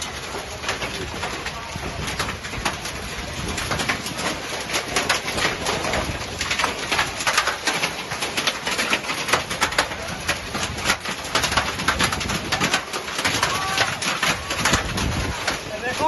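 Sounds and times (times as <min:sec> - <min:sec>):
hailstones clattering: 0:00.0 - 0:16.0.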